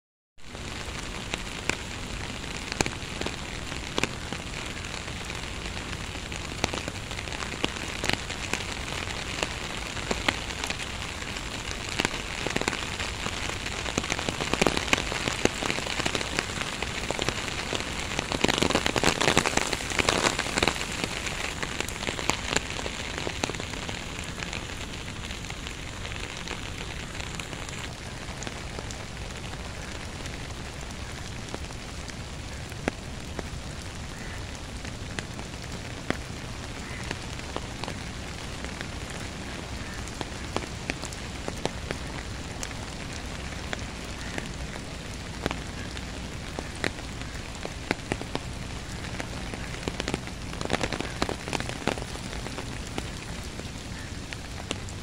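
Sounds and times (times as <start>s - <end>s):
rain falling: 0.4s - 55.0s.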